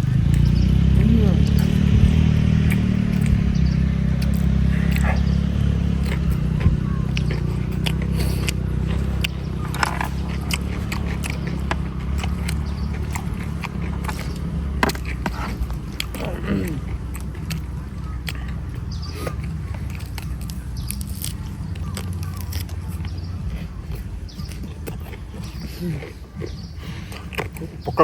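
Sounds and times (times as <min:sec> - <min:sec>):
low rumble: 0:00.0 - 0:25.6
person chewing meat: 0:00.0 - 0:28.0.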